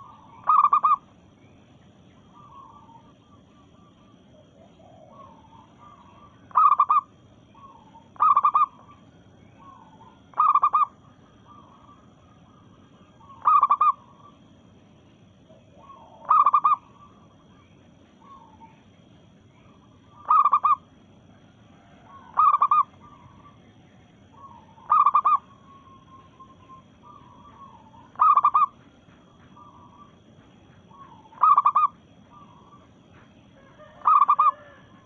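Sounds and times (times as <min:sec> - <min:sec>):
dove pulsed cooing: 0:00.0 - 0:01.3, 0:02.2 - 0:35.0.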